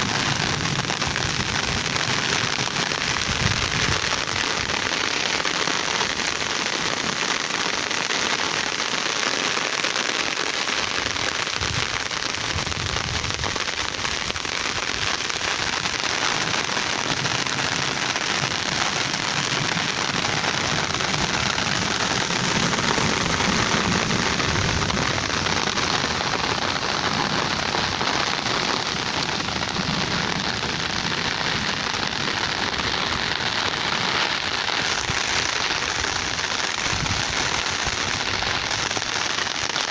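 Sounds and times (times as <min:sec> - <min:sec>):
rain falling on puddles: 0:00.0 - 0:39.9.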